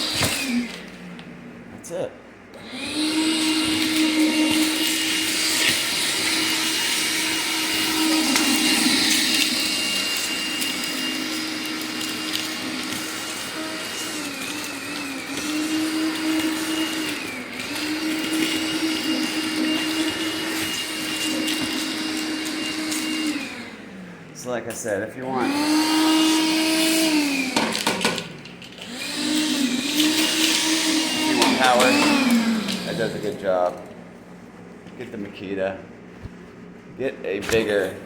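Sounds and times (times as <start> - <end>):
vacuum motor whining: 0.0 - 1.6, 2.5 - 24.6, 25.2 - 34.1.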